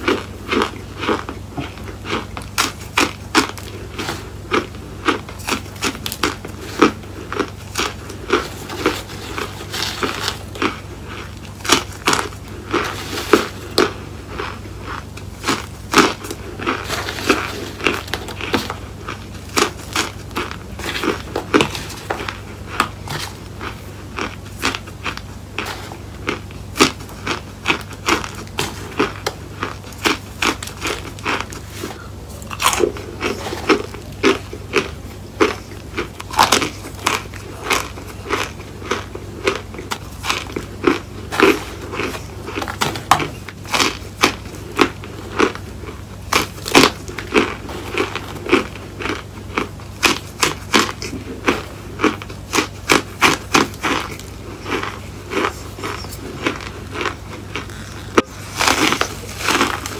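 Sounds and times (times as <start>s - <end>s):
crunchy chewing: 0.0s - 59.9s
faint low hum: 0.0s - 59.9s.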